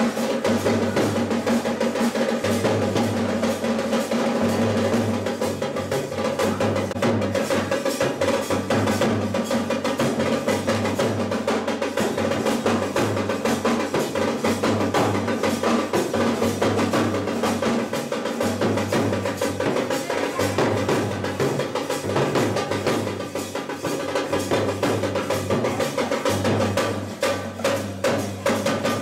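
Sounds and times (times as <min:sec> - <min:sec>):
fast band drumming: 0:00.0 - 0:29.0.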